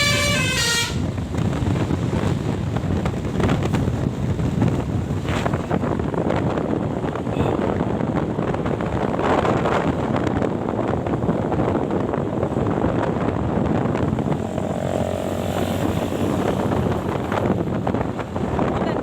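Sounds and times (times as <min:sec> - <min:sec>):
bus and traffic road noise: 0:00.0 - 0:19.0
wind buffeting microphone: 0:00.0 - 0:19.0.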